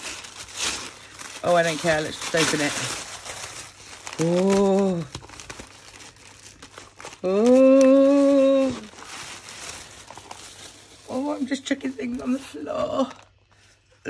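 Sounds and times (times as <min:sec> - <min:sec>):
tissue paper crinkling: 0:00.0 - 0:13.9.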